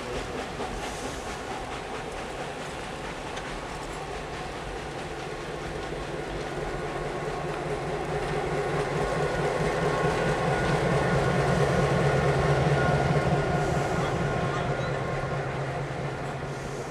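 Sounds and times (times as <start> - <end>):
diesel locomotive engine hum: 0.0 - 16.9
train wheels rumbling and clicking: 0.0 - 16.9.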